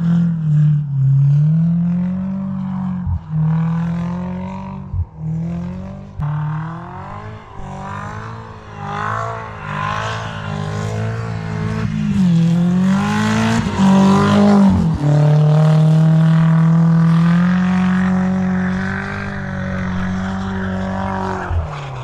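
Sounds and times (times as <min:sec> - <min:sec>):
car engine revving hard: 0:01.1 - 0:22.0.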